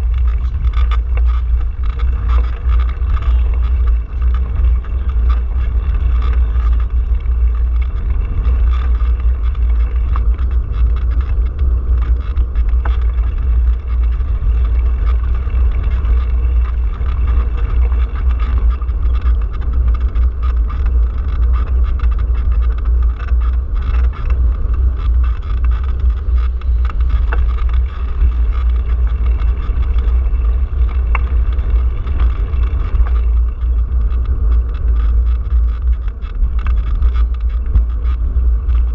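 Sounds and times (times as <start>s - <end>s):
bicycle road vibration rumble: 0.0s - 38.9s
wind buffeting: 0.0s - 38.9s.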